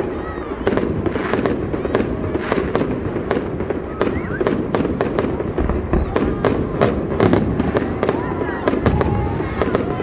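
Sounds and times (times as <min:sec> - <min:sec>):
small firework bursts: 0:00.0 - 0:10.0.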